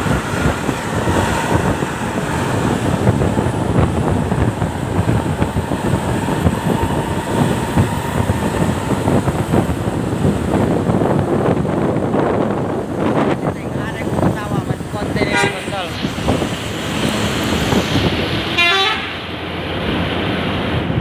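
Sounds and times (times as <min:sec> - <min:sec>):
coach engine and road noise: 0:00.0 - 0:21.0.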